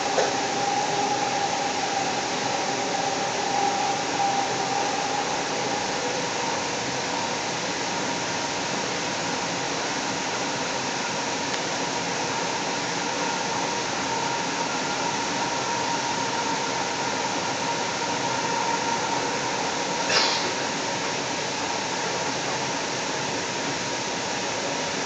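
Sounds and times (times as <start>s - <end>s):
faint steady whine: 0.0s - 25.0s
light rail car rushing hiss: 0.0s - 25.0s.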